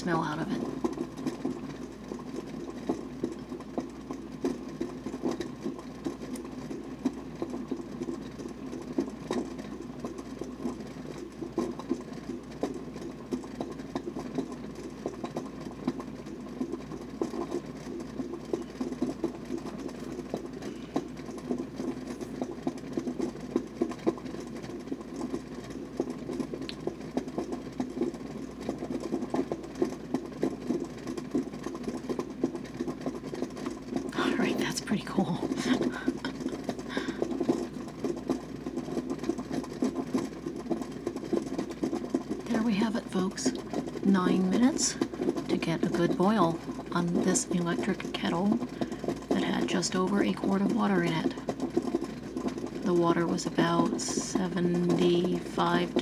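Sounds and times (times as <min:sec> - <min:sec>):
water boiling in a kettle: 0:00.0 - 0:56.0.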